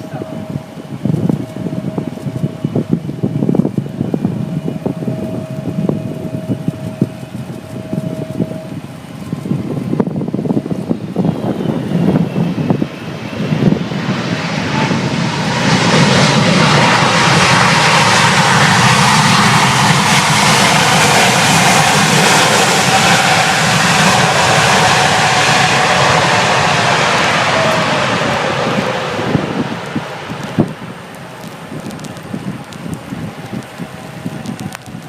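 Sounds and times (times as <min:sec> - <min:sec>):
jet engines roaring: 0:00.0 - 0:35.0
wind buffeting microphone: 0:00.0 - 0:35.0.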